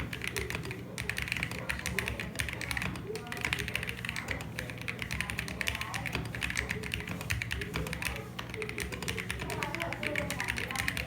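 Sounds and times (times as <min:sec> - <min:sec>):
mechanical keyboard typing: 0:00.0 - 0:11.0.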